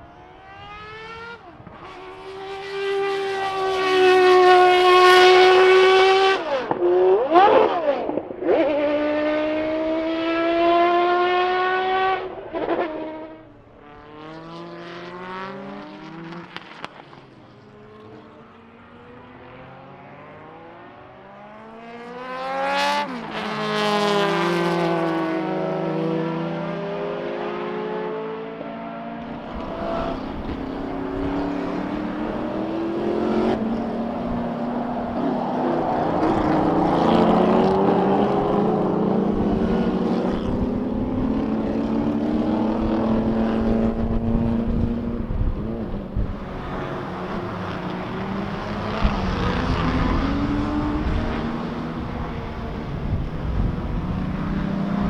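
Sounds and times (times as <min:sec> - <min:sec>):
racing cars passing at speed: 0:00.0 - 0:55.0.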